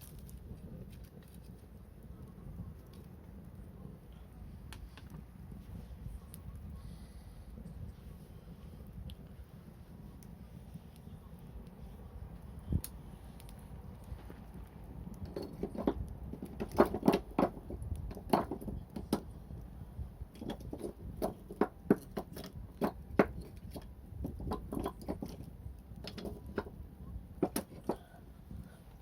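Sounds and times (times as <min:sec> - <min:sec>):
low steady rumble: 0:00.0 - 0:29.0
wood fire crackling: 0:00.0 - 0:29.0.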